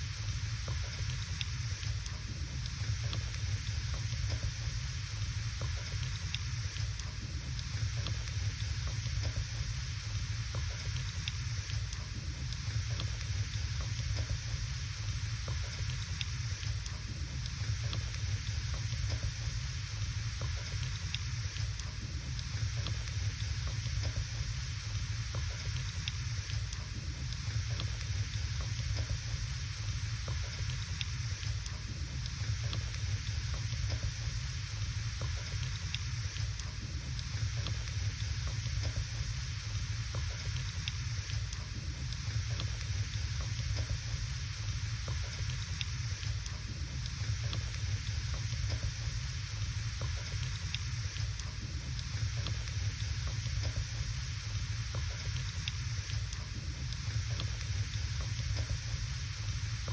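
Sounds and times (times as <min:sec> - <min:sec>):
fireplace fire hissing and rumbling: 0:00.0 - 0:59.9.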